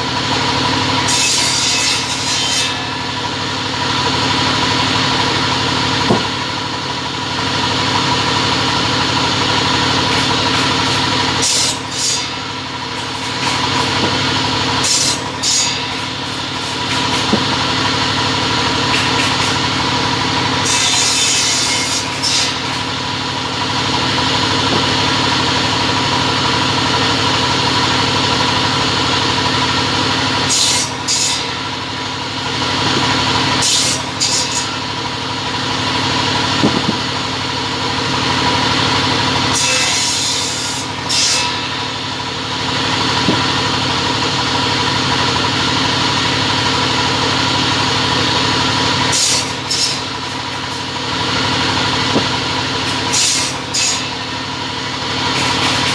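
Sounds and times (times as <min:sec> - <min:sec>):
cutting machine humming: 0:00.0 - 0:55.9.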